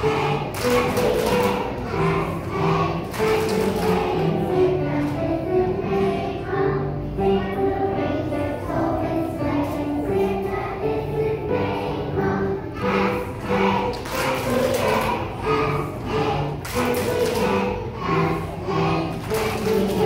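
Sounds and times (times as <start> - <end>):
children singing in unison: 0.0 - 20.0
upright piano: 0.0 - 20.0.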